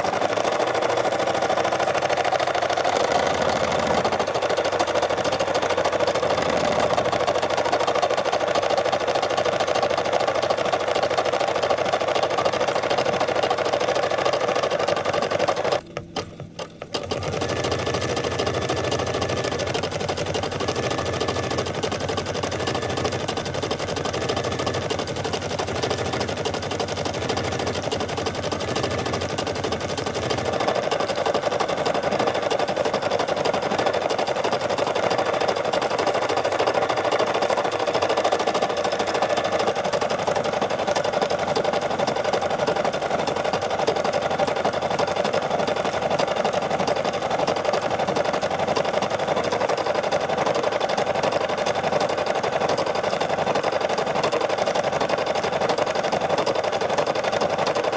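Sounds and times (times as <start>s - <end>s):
embroidery arm whirring: 0.0s - 9.6s, 11.9s - 49.6s
embroidery machine needle rattle: 0.0s - 57.9s.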